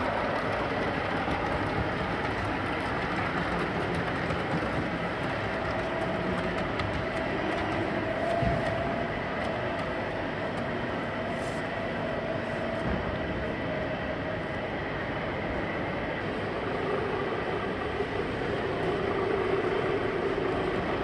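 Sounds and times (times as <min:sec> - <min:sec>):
model trains running: 0:00.0 - 0:21.0.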